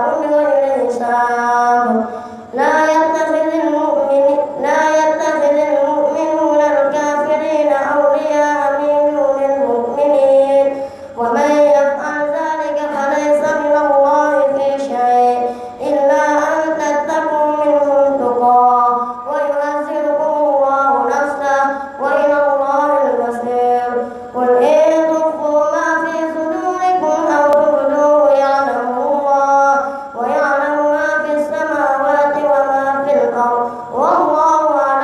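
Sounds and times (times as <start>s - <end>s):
boy chanting melodically: 0.0s - 35.0s.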